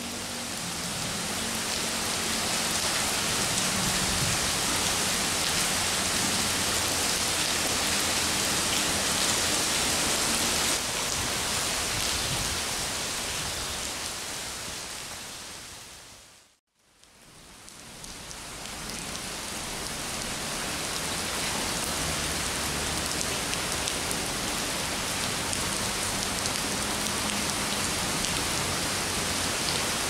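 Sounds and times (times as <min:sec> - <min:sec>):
heavy rain pouring: 0:00.0 - 0:15.8, 0:17.2 - 0:30.0.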